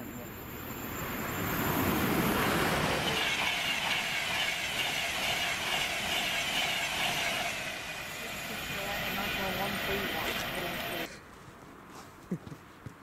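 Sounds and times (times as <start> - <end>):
train passing at speed: 0.0 - 11.1.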